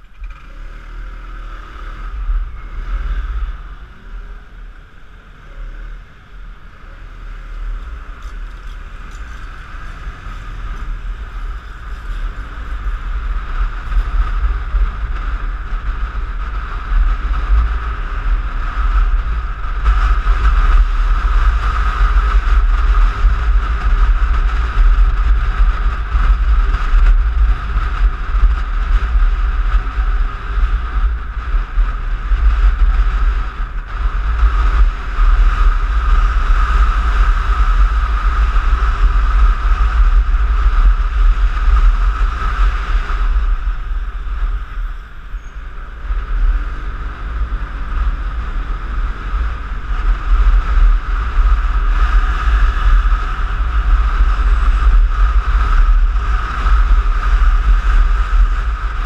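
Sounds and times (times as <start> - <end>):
scooter engine: 0.0 - 59.0.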